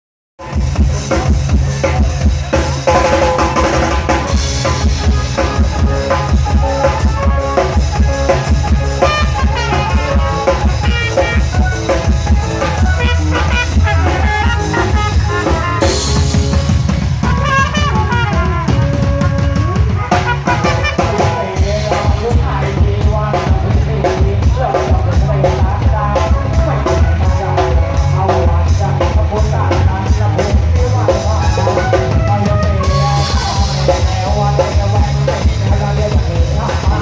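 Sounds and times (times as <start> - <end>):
drum kit steady beat: 0.4 - 37.0
procession band playing upbeat music: 0.4 - 37.0.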